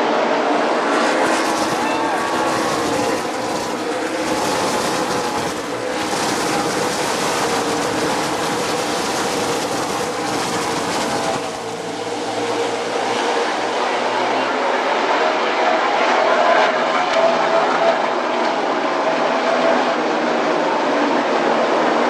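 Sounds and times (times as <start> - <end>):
race cars racing past: 0.0 - 22.0.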